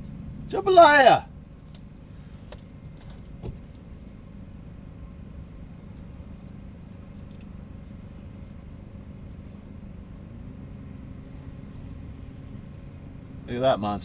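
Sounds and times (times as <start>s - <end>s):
propane heater humming: 0.0s - 14.0s.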